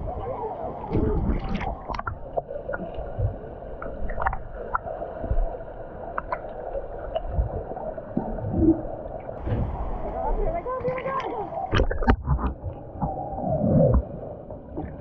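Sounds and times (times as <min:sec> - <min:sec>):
muffled water sloshing and gurgling: 0:00.0 - 0:15.0.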